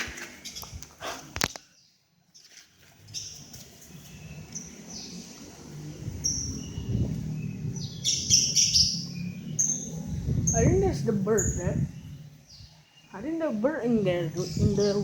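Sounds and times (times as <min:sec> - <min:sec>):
bird chirping: 0:01.6 - 0:15.0.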